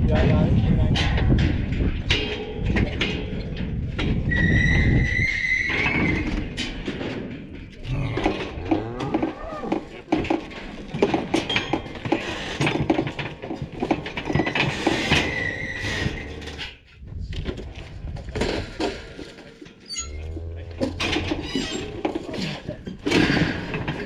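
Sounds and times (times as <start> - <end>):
steel chute clanking and rattling: 0.0 - 16.9, 18.3 - 24.0.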